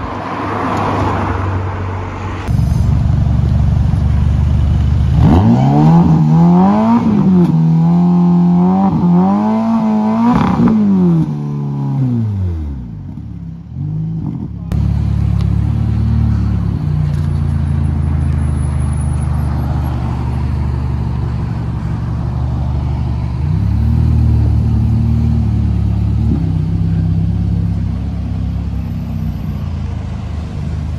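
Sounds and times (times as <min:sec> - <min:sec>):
car engine pulling away: 0:02.4 - 0:30.9.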